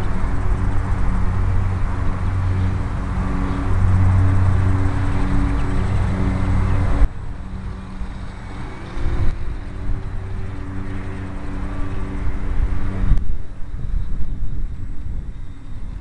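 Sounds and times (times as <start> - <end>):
model airplane motor droning: 0.0 - 16.0
wind buffeting microphone: 0.0 - 16.0.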